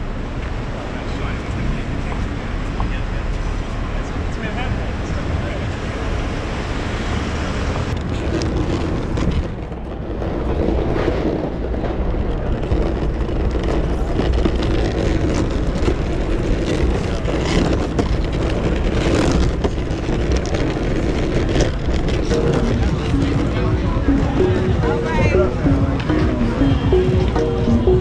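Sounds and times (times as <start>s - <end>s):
city street traffic: 0.0s - 28.0s
wind noise on microphone: 0.0s - 28.0s.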